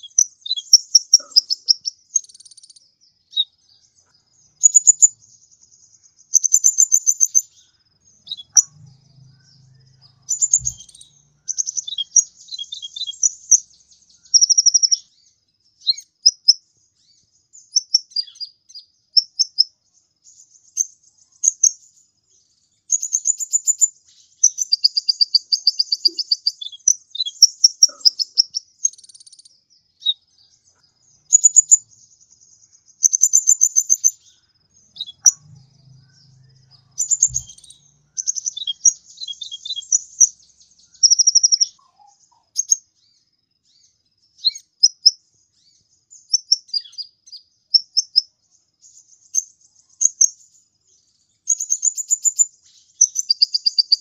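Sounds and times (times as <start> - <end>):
sunbird high rapid twittering: 0.0 - 54.0.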